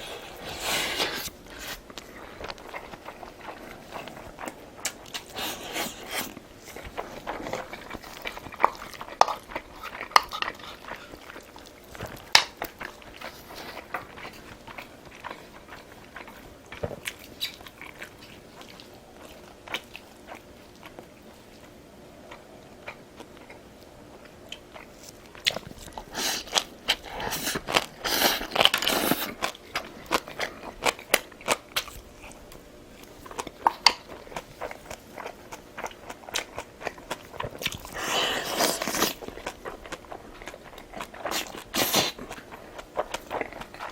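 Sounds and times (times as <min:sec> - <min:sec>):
person chewing and crunching food: 0:00.0 - 0:43.9.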